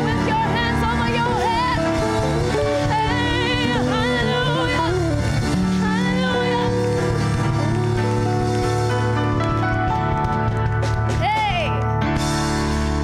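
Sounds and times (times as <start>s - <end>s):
sustained band chords: 0.0s - 13.0s.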